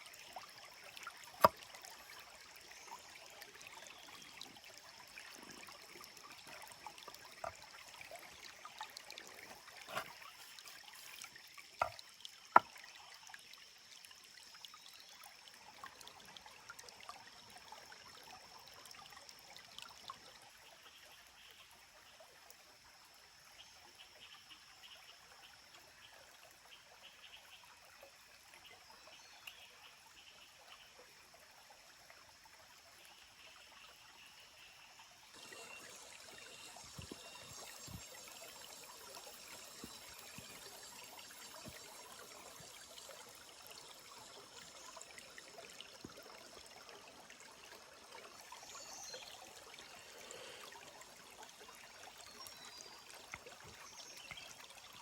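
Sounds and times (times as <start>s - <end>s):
stream trickling: 0.0s - 55.0s.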